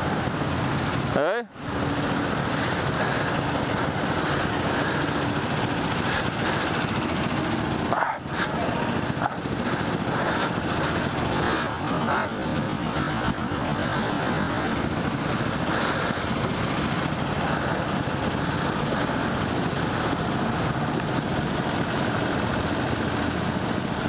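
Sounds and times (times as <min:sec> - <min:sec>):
go-kart engines running: 0:00.0 - 0:24.0.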